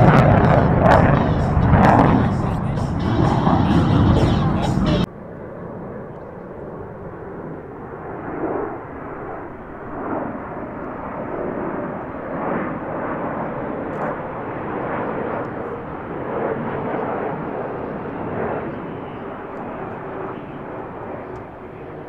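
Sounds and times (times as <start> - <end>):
jet bomber flying past: 0.0 - 22.0.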